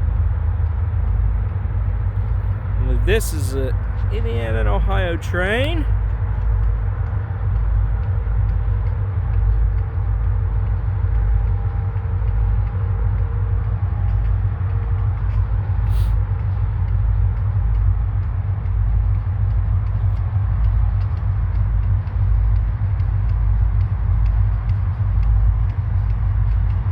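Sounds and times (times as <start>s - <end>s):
train passing rumble: 0.0s - 26.9s.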